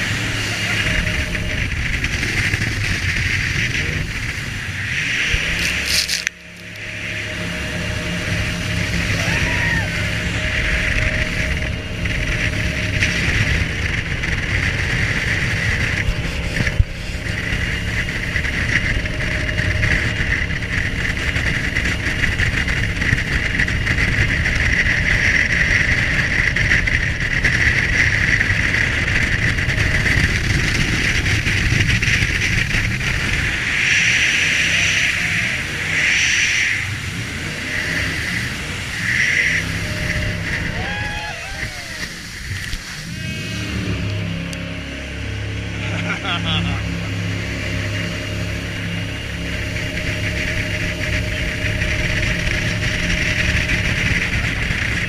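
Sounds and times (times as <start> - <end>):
jet boat engine whine: 0.0 - 55.0
rumbling rush of water: 0.0 - 55.0.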